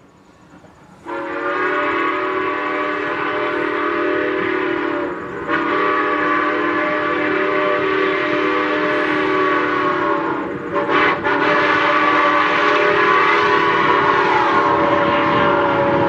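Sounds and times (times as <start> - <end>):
steam locomotive whistle: 0.9 - 16.0.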